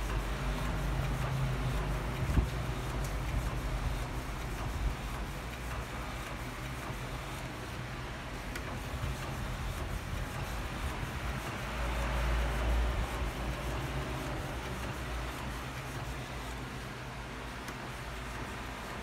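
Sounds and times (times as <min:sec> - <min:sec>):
inkjet printer printing: 0:00.0 - 0:19.0.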